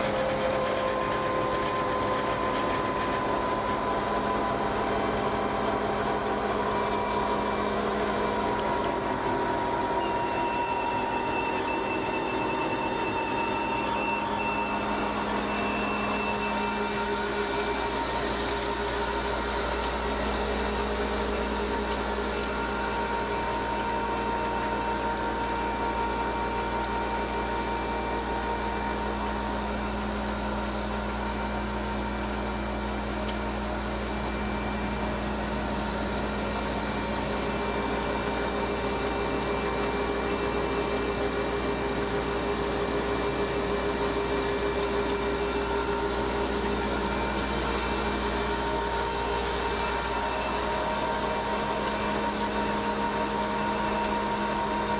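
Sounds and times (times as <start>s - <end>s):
auger running: 0.0s - 54.9s
engine and hydraulic hum and whine: 0.0s - 54.9s.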